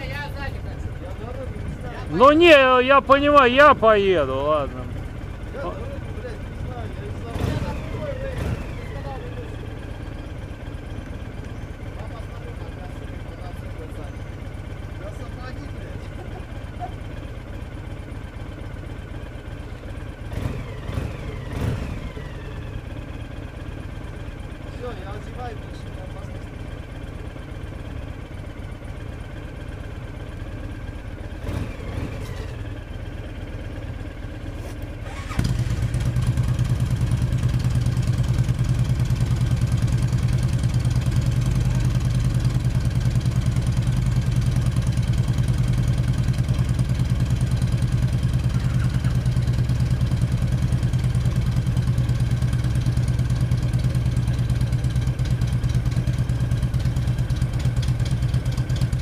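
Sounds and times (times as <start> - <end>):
motorcycle engine idling loudly: 0.0 - 59.0
other motorcycles idling: 0.0 - 59.0.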